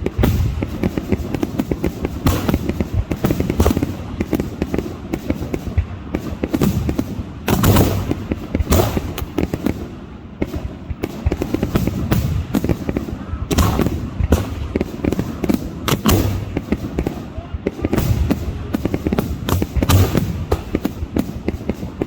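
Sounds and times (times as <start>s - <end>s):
fireworks booming and cracking: 0.0s - 22.0s
fireworks crackling: 0.0s - 22.0s.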